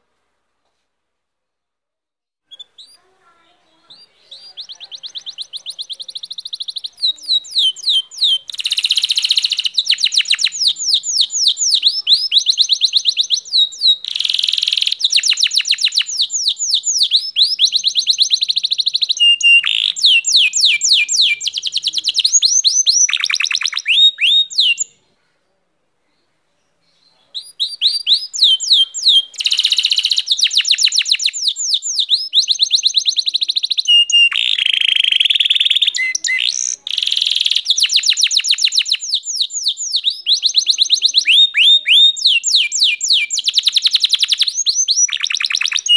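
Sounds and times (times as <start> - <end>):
canary singing trills: 2.5 - 25.1, 26.1 - 45.9.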